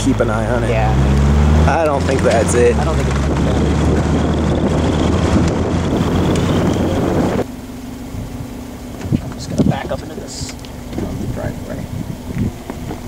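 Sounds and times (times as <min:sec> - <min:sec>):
road wind and engine noise in car: 0:00.0 - 0:13.0.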